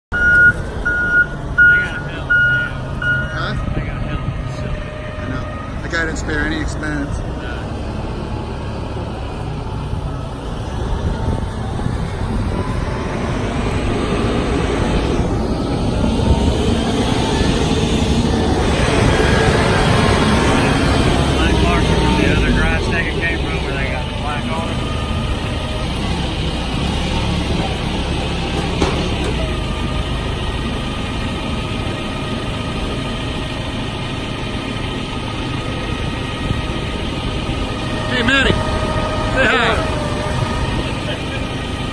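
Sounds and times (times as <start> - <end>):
forklift engine running: 0.1 - 41.9.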